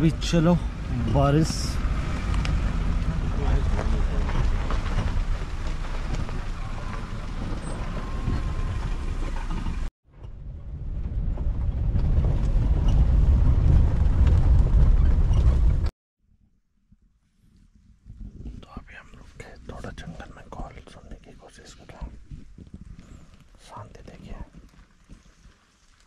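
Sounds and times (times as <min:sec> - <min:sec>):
vehicle engine and road rumble: 0:00.0 - 0:15.9, 0:17.0 - 0:26.0
wind on microphone: 0:00.7 - 0:15.9, 0:17.4 - 0:20.7, 0:21.8 - 0:25.6.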